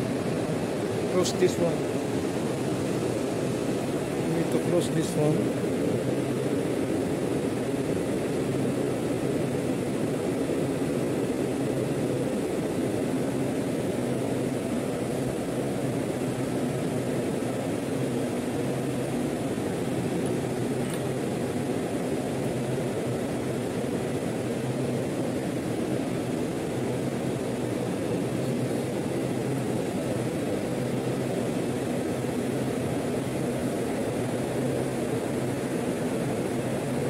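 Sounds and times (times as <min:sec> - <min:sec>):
industrial machinery drone: 0:00.0 - 0:37.0.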